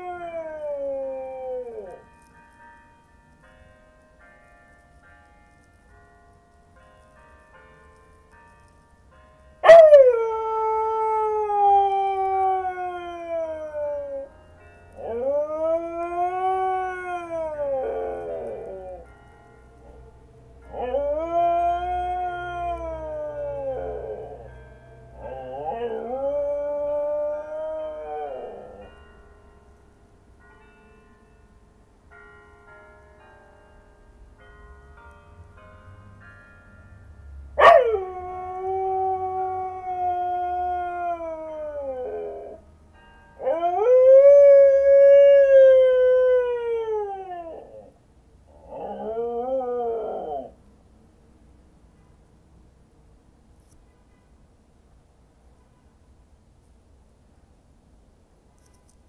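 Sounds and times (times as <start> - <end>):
church bells: 0.0 - 49.4.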